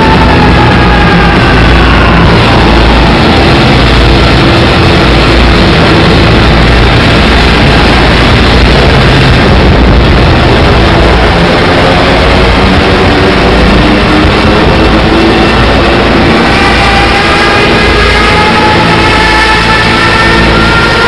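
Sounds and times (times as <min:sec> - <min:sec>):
heavy engine running: 0:00.0 - 0:21.0.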